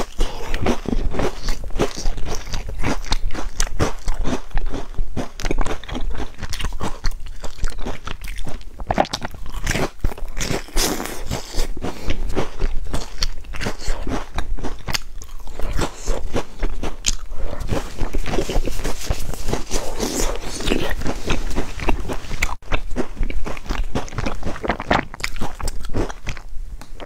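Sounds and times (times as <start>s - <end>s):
biting and chewing cakes: 0.0s - 27.0s.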